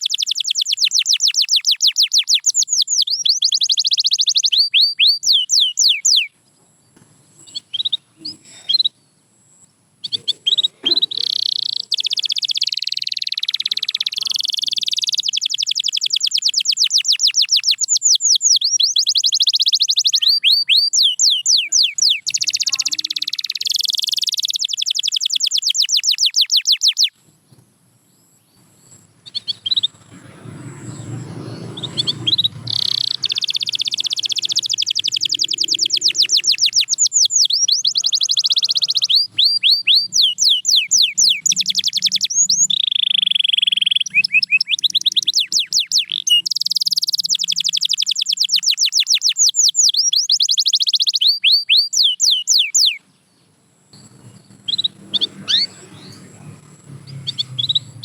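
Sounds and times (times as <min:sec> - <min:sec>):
canary singing trills: 0:00.0 - 0:27.2, 0:28.2 - 0:58.0.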